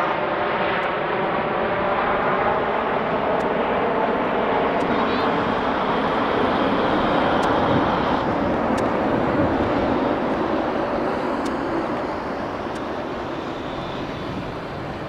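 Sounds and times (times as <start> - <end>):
jet airliner engine rumble: 0.0 - 15.0.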